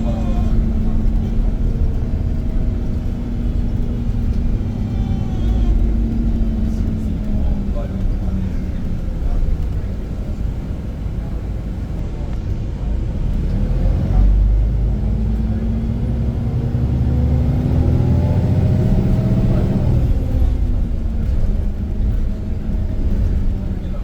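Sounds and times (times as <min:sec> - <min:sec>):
bus engine pulling hard: 0:00.0 - 0:24.0.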